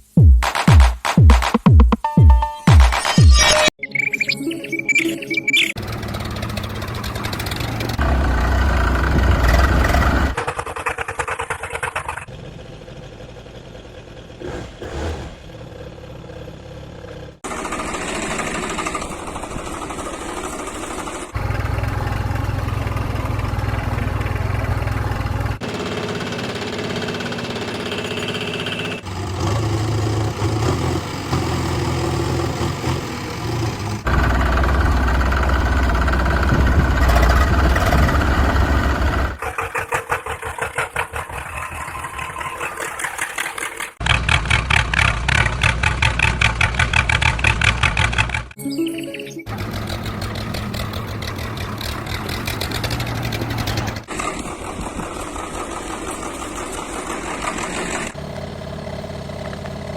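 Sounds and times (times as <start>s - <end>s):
small tractor engines running: 5.8s - 48.6s, 49.5s - 59.9s.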